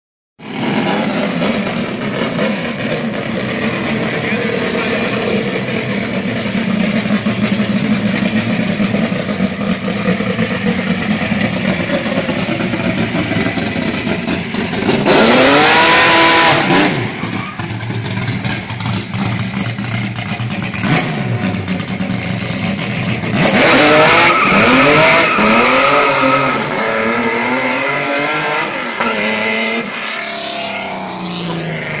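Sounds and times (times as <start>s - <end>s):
car engine revving: 0.4s - 32.0s.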